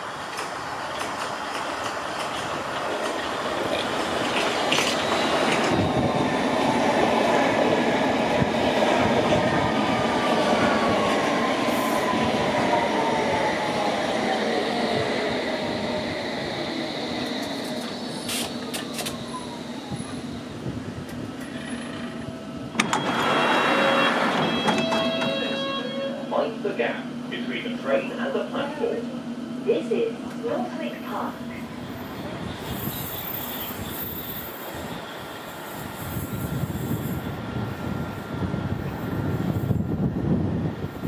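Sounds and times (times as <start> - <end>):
train wheels on track: 0.0 - 41.0.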